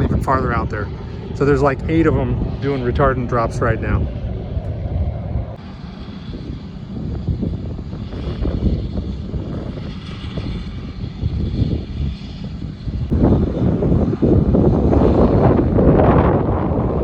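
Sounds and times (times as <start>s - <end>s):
propeller engine drone: 0.0s - 17.0s
wind buffeting microphone: 0.0s - 17.0s.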